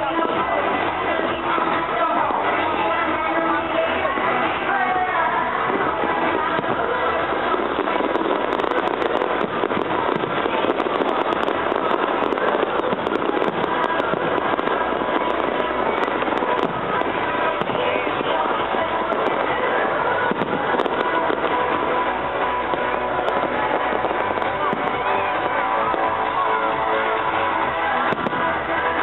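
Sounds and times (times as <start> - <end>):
fireworks crackling and banging: 0.0 - 29.0
music playing: 0.0 - 29.0.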